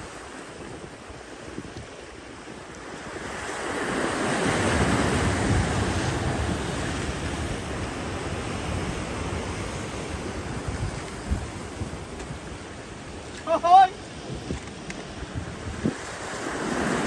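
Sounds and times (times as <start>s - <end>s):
surf breaking over rocks: 2.4s - 17.0s.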